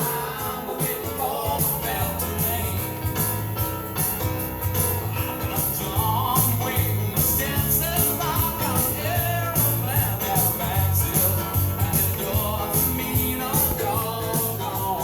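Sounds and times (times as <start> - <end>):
person singing: 0.0 - 3.4, 5.4 - 15.0
song with steady bass beat: 0.0 - 15.0.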